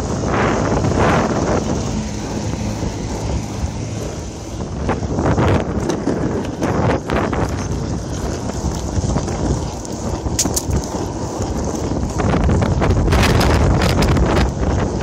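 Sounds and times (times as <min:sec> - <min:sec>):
skateboard wheels rolling on pavement: 0:00.0 - 0:15.0
wind buffeting microphone: 0:00.0 - 0:15.0.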